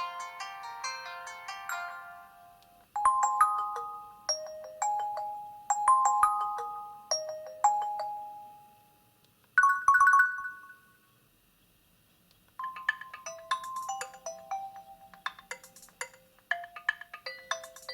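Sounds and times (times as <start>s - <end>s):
phone ringtone melody: 0.0s - 8.8s, 9.6s - 11.0s, 12.6s - 17.9s.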